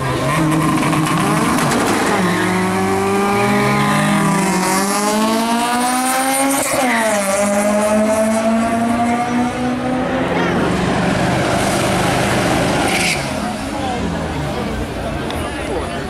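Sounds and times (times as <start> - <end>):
car engine accelerating hard: 0.0 - 14.9.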